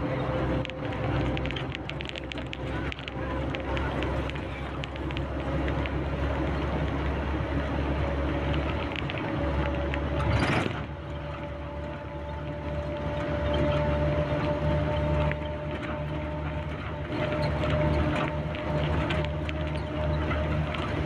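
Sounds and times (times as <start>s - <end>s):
road and wind noise: 0.0s - 21.0s
small vehicle engine running: 0.0s - 21.0s.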